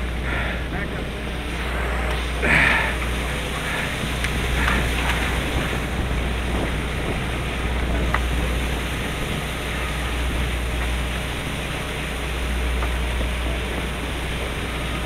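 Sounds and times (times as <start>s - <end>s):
boat engine humming: 0.0s - 15.0s
sea noise: 0.0s - 15.0s
wind: 0.0s - 15.0s.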